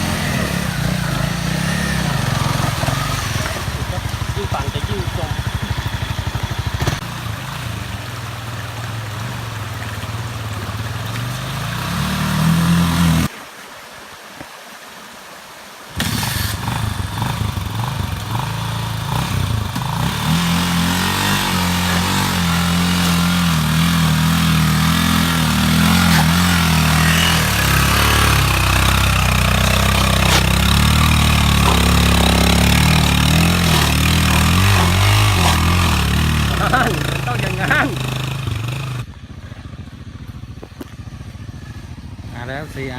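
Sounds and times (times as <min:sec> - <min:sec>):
motorcycle engine revving: 0:00.0 - 0:13.3, 0:16.0 - 0:42.9
wheel spinning in mud: 0:00.0 - 0:13.3, 0:16.0 - 0:42.9.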